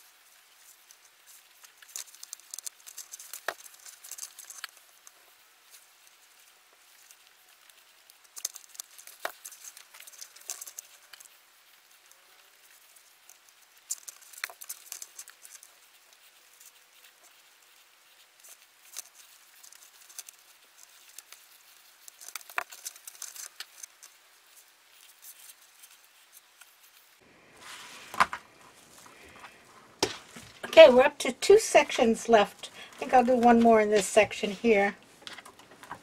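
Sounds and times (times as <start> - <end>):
plastic mesh crinkling: 0.0 - 36.0.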